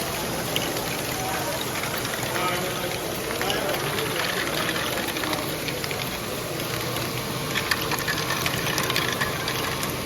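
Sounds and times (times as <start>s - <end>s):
hum of a busy hall: 0.0s - 10.0s
wheels clicking over track: 0.0s - 10.0s.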